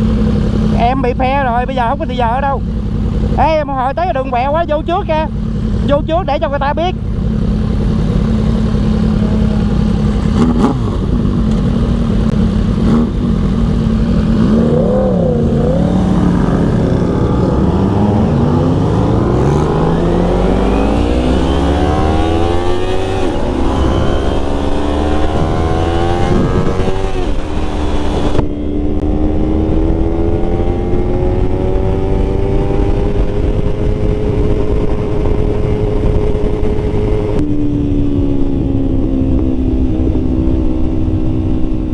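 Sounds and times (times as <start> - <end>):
motorcycle engine accelerating: 0.0 - 41.9
wind rush: 7.0 - 41.9.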